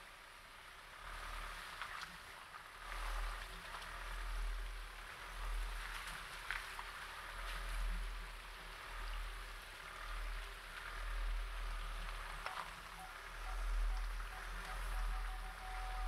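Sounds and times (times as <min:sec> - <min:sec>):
car engine low rumble: 0:00.0 - 0:16.0
wheels ticking on track: 0:00.0 - 0:16.0.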